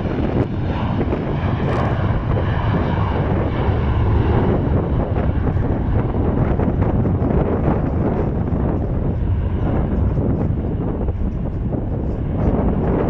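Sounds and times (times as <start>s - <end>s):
jet engines at takeoff power: 0.0s - 13.0s
wind buffeting microphone: 0.0s - 13.0s.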